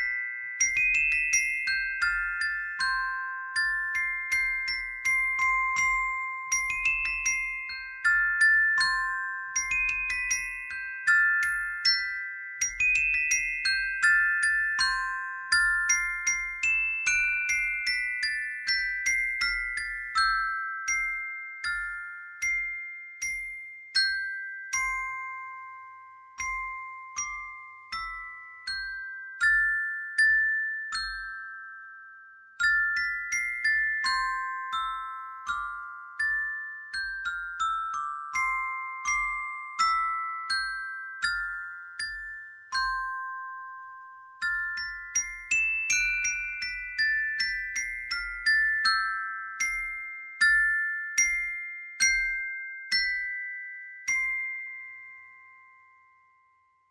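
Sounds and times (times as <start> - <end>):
glockenspiel melody: 0.0 - 56.9.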